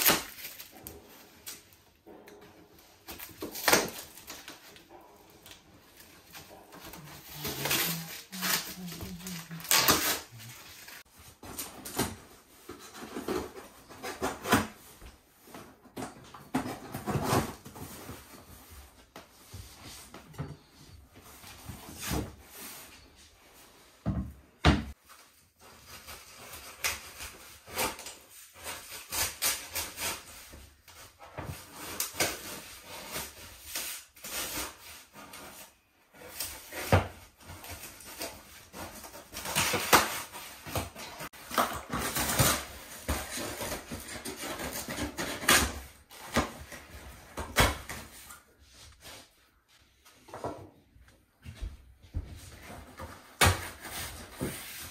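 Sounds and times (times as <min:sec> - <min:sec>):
cardboard rustling and scraping: 0:00.0 - 0:24.0, 0:25.0 - 0:54.9.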